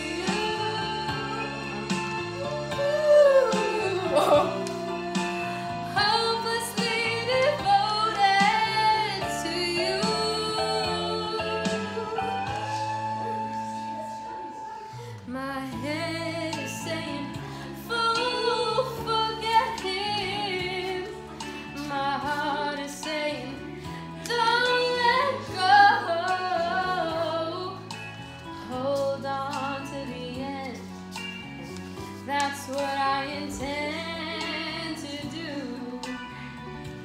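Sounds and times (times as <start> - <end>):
backing track music: 0.0 - 37.0
woman singing karaoke: 0.0 - 37.0.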